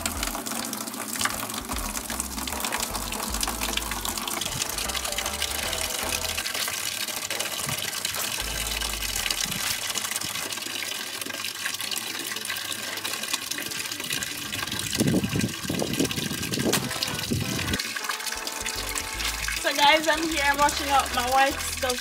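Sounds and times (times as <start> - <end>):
tap water running into tub: 0.0 - 22.0.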